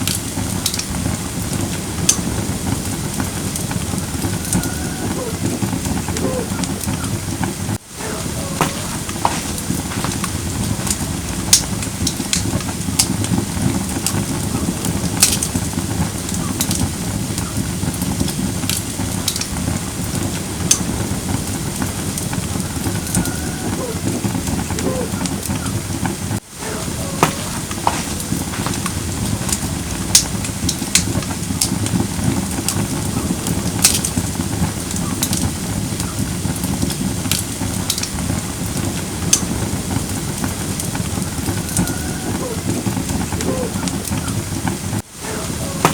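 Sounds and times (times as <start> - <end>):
fire crackling and popping: 0.0 - 45.9
flames rushing: 0.0 - 45.9.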